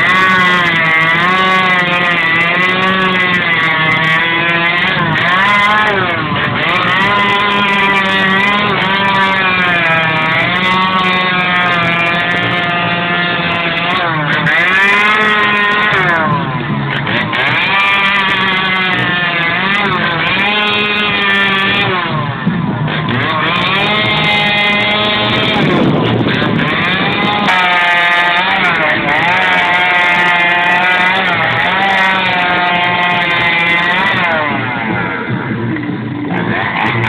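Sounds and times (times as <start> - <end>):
chainsaw cutting a log: 0.0 - 37.0.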